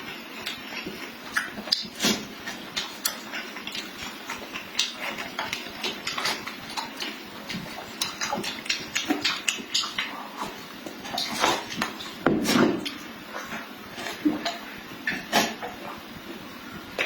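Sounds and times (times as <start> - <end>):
chewing with lip smacks: 0.1 - 16.0.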